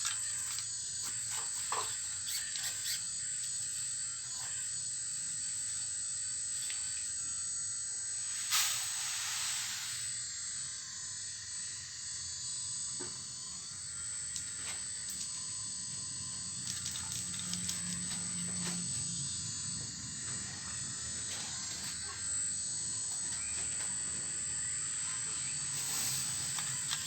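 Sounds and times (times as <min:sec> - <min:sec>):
toy excavator drive whine: 0:00.0 - 0:27.0.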